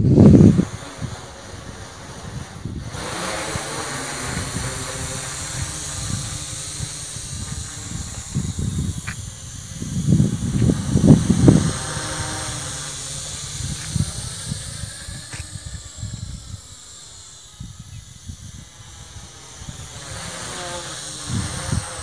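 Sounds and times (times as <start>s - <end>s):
toy drone propellers whirring: 0.0s - 22.0s
wind buffeting microphone: 0.0s - 22.0s.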